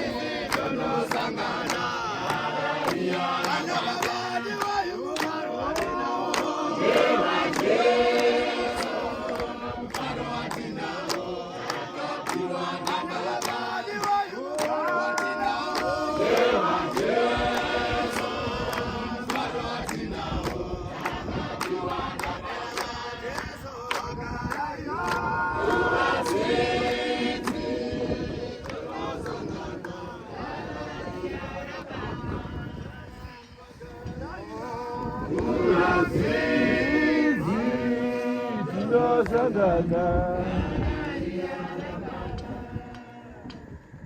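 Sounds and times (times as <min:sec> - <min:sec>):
congregation singing in chorus: 0:00.0 - 0:44.0.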